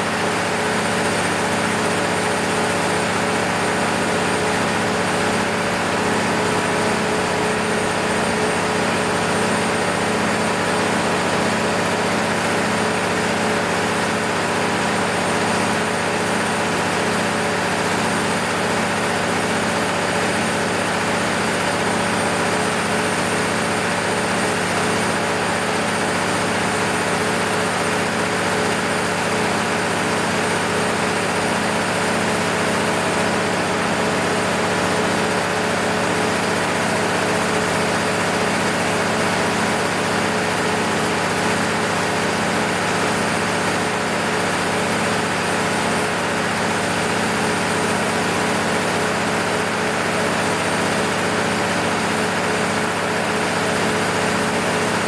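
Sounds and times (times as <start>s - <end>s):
diesel generator running: 0.0s - 55.0s.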